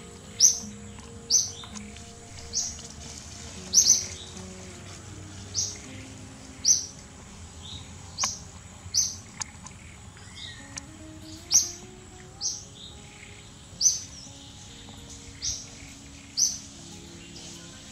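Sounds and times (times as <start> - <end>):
bird chirping: 0.0 - 17.9
soft background music: 0.0 - 17.9.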